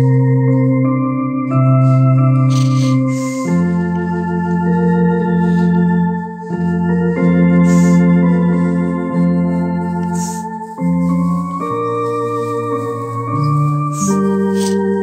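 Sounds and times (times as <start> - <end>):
electronic organ chords: 0.0 - 15.0.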